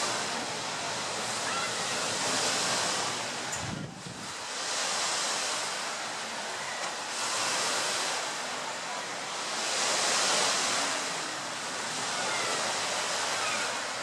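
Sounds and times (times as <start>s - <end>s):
sea surf washing: 0.0s - 14.0s
wind: 0.0s - 14.0s.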